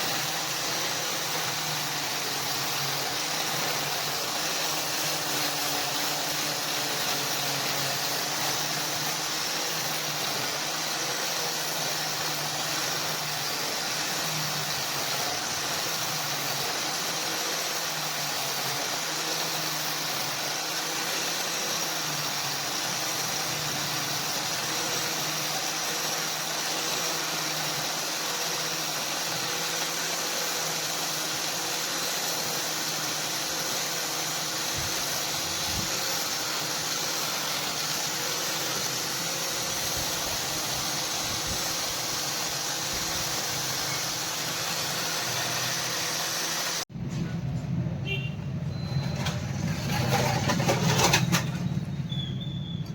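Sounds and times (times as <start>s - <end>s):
motor running with hum and hiss: 0.0s - 46.9s.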